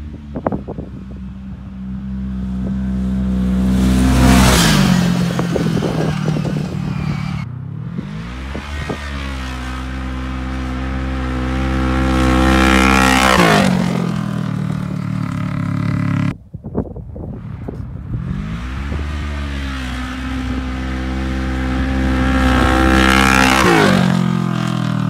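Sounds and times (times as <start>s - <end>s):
engine revving hard: 2.4s - 16.3s, 18.0s - 25.0s.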